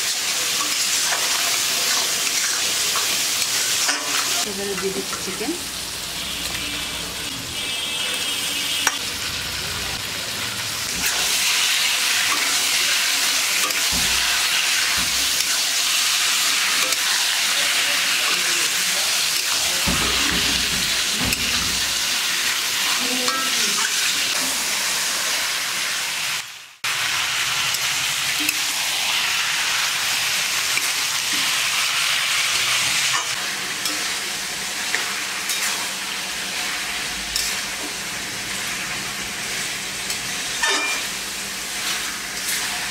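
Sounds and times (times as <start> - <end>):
chicken sizzling in a pan: 0.0 - 42.9.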